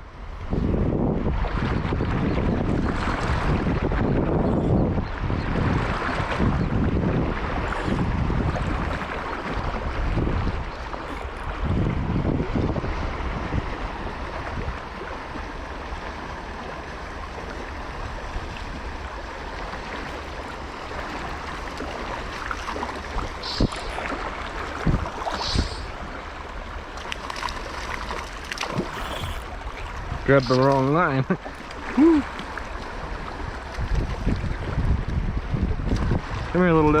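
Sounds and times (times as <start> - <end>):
flowing river water: 0.0 - 37.0.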